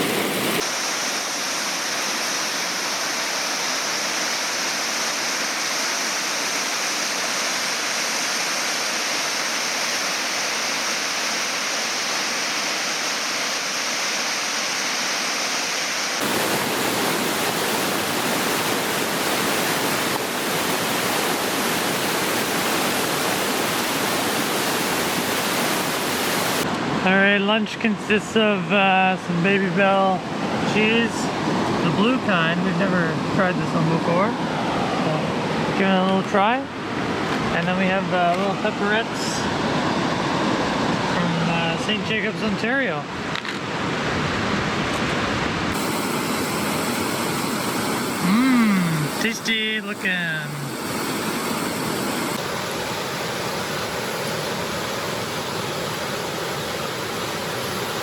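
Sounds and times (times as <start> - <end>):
rush of falling water: 0.0 - 26.9, 30.2 - 58.0.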